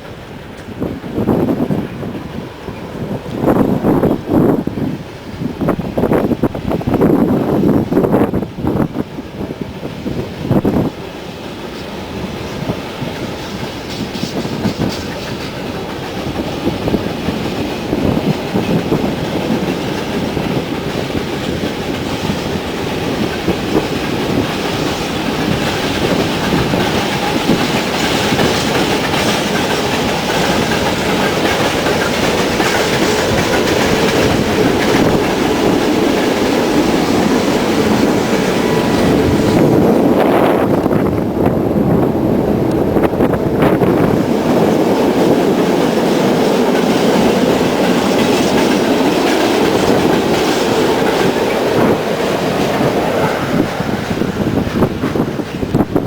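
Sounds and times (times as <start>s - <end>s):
train running on rails: 0.0s - 56.0s.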